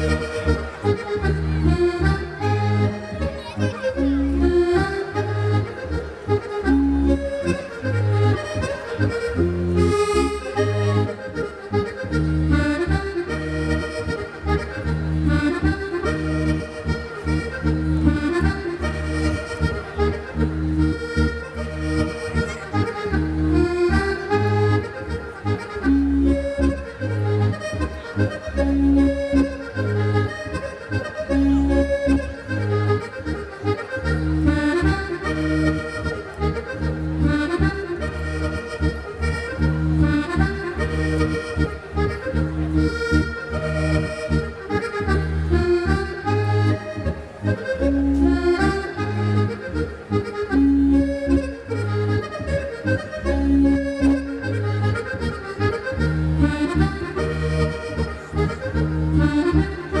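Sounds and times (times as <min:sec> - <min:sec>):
button accordion dance tune: 0:00.0 - 1:00.0.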